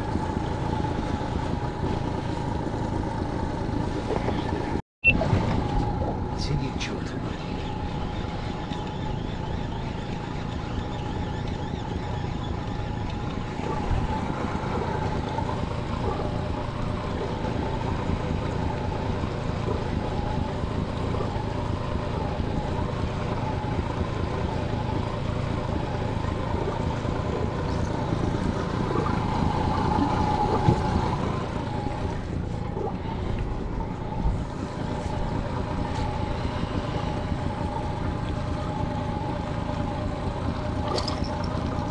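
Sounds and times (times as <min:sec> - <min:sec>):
outboard motor running: 0:00.0 - 0:41.9
water noise: 0:00.0 - 0:41.9
wind: 0:00.0 - 0:41.9.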